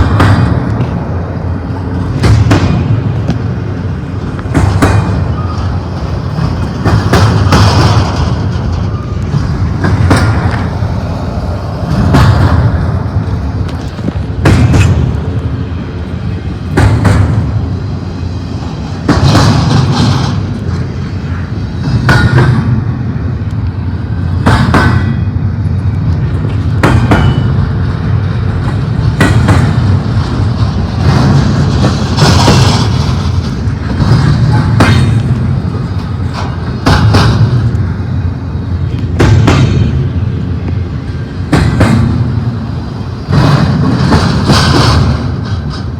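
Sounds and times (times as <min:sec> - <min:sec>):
freight train wheels clanking: 0:00.0 - 0:45.9.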